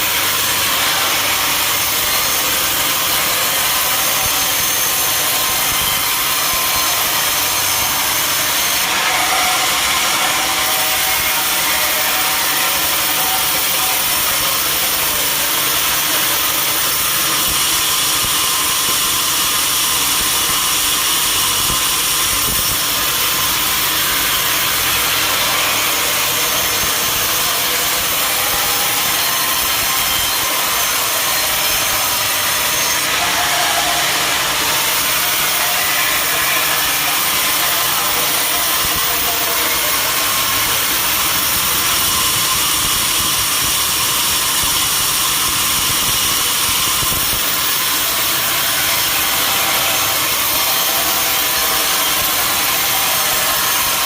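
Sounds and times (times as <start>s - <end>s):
sawmill cutting wood: 0.0s - 54.0s.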